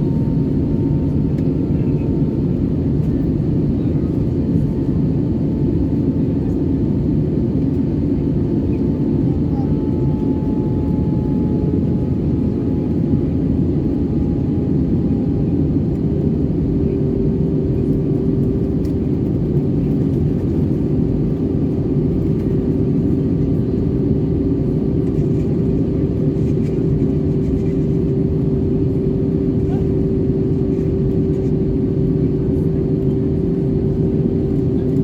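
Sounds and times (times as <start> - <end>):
airplane cabin engine roar: 0.0 - 35.0.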